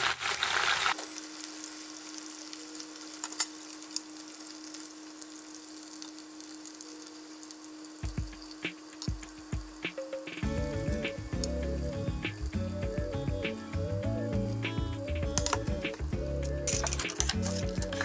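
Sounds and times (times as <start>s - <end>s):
chicken sizzling in frying pan: 0.0s - 18.0s
faint steady hum: 1.0s - 18.0s.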